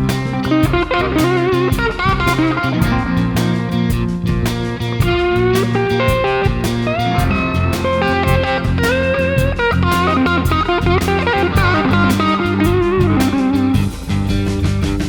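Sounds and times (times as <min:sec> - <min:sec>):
bass: 0:00.0 - 0:15.0
bluesy electric guitar lead: 0:00.0 - 0:15.0
steady drum beat: 0:00.0 - 0:15.0.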